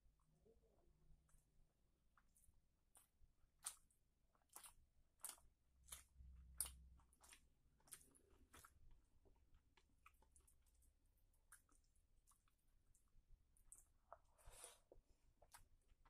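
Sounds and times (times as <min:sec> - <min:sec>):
mouth chewing food: 0:01.2 - 0:16.0.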